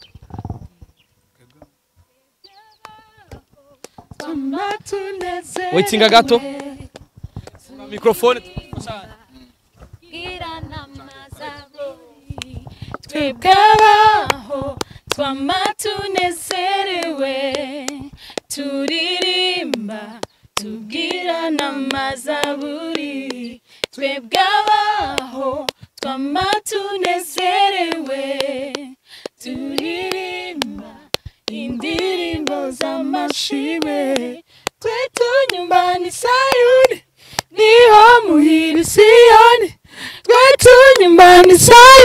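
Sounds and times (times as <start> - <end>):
woman singing gospel a cappella: 2.5 - 42.0.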